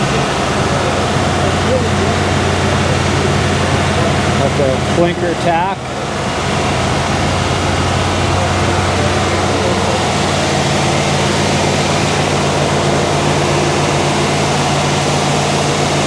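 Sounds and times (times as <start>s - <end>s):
car engine running: 0.0s - 16.0s
higher hum: 0.0s - 16.0s.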